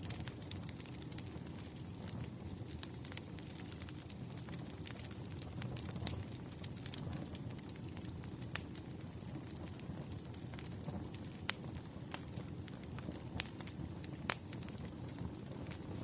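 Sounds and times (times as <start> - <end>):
fire crackles and pops: 0.0 - 16.0
fire rustle and hiss: 0.0 - 16.0.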